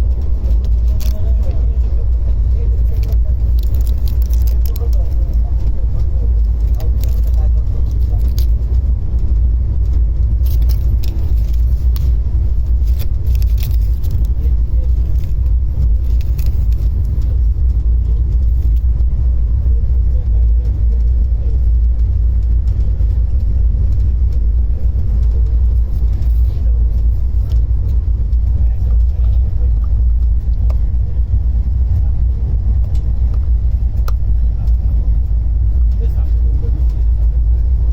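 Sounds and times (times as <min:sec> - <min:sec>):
light clicks and rattles: 0:00.0 - 0:37.9
train rumble heard on board: 0:00.0 - 0:37.9.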